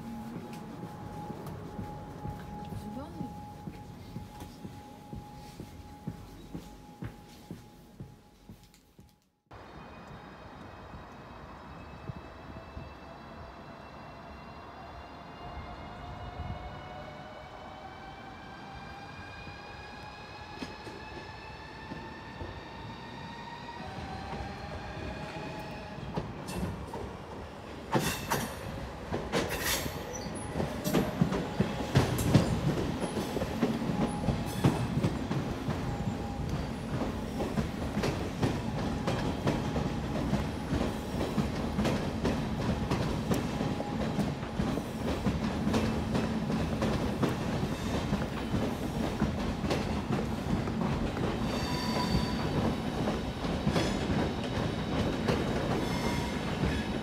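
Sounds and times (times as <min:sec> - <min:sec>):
train rumble: 0:00.0 - 0:09.0, 0:19.6 - 0:57.0.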